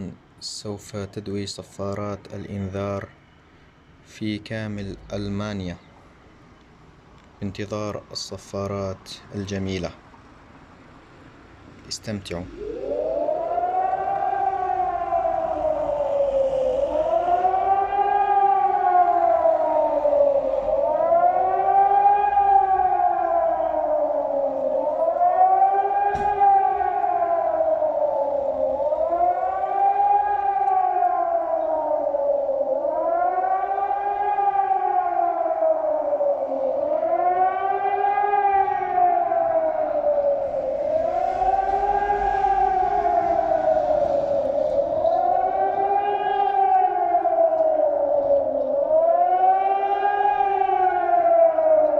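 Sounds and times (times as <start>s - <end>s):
civil-defence siren wailing: 7.4s - 51.9s.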